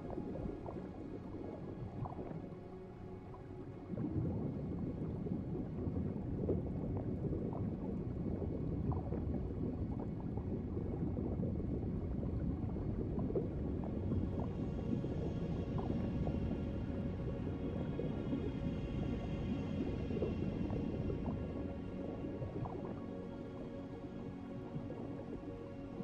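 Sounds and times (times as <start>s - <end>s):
underwater gurgling and bubbling: 0.0s - 26.0s.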